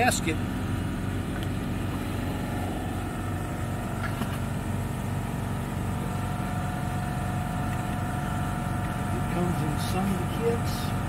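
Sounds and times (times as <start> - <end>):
faint whine: 0.0 - 11.0
low mechanical hum: 0.0 - 11.0.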